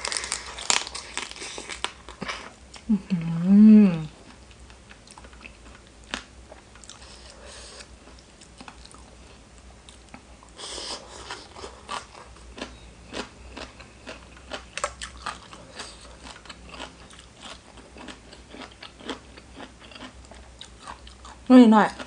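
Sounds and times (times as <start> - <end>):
biting and chewing food: 0.0 - 2.9, 4.2 - 22.0.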